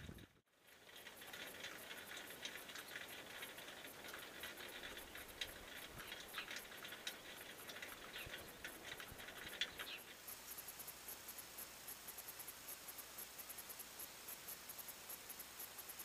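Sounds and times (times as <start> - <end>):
small birds chirping and ticking: 0.6 - 16.0.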